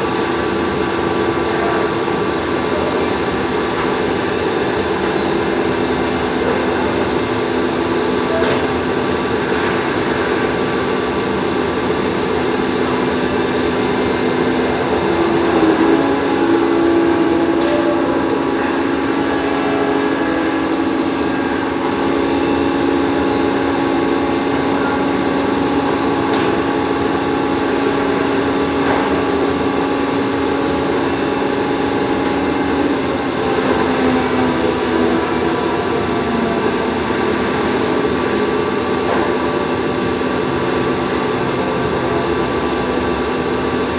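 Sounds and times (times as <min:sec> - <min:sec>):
drilling machine humming: 0:00.0 - 0:43.9.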